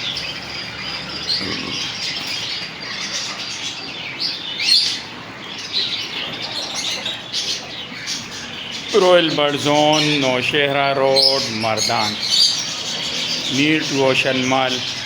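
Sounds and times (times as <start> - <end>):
loud shrill bird call: 0.0 - 15.0
parrots chirping and calling: 0.0 - 15.0.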